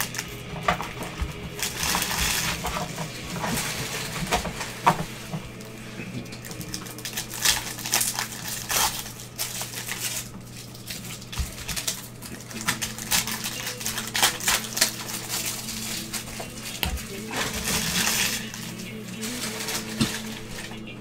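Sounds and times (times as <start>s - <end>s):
plastic wrapper crinkling: 0.0s - 21.0s.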